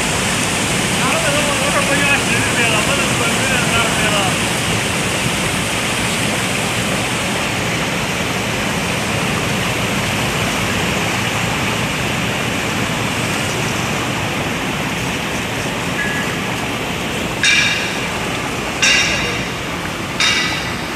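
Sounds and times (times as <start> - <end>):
water churning with air bubbling: 0.0 - 20.9.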